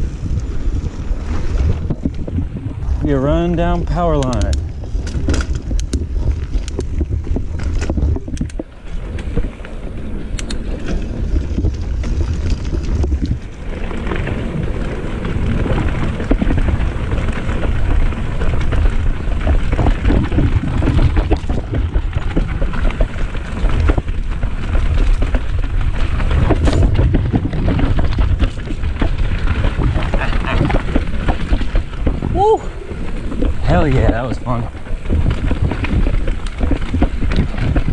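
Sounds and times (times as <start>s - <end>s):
bike rattling: 0.0s - 37.9s
bike tyres crunching over dirt: 0.0s - 37.9s
wind buffeting microphone: 0.0s - 37.9s.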